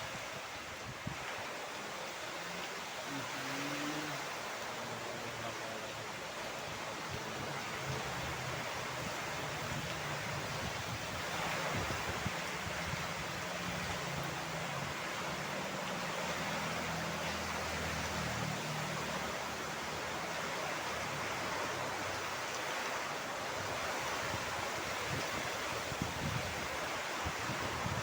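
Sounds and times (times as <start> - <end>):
rain falling in wind: 0.0 - 28.0.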